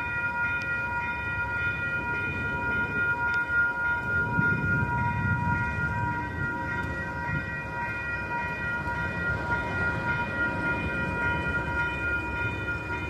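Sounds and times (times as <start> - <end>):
freight train cars rumbling: 0.0 - 13.0.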